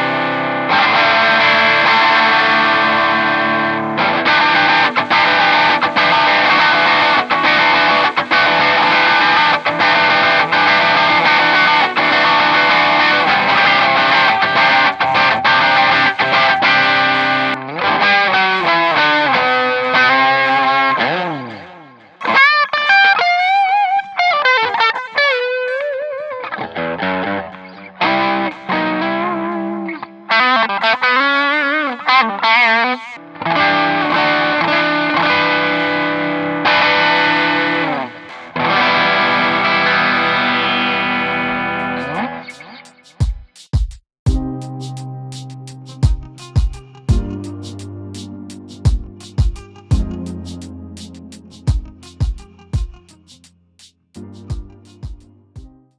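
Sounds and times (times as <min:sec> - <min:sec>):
distorted electric guitar: 0:00.0 - 0:43.2, 0:44.3 - 0:55.9.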